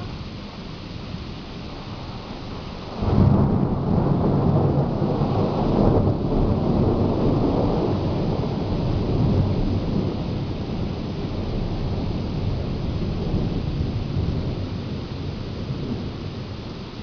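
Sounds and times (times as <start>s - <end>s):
steady rain: 0.0s - 17.0s
thunder rumbling: 1.1s - 17.0s.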